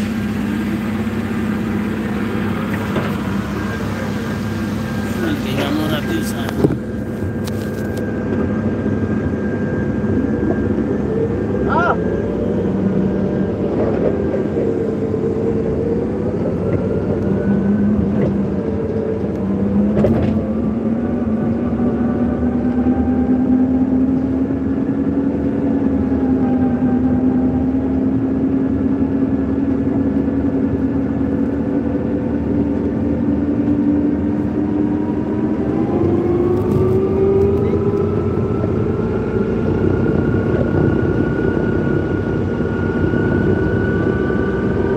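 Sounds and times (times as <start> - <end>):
constant rushing noise: 0.0 - 44.9
forklift engine humming: 0.0 - 44.9.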